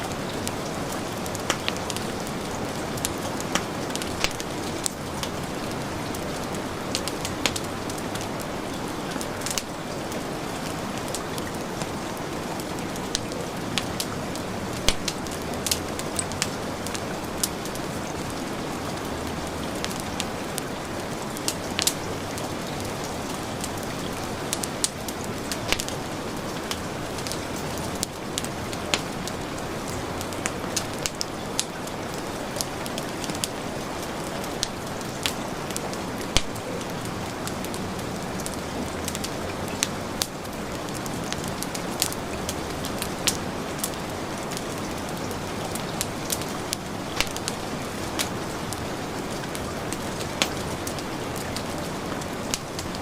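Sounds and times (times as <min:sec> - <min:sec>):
heavy rain falling: 0:00.0 - 0:53.0
wood fire crackling: 0:00.0 - 0:53.0.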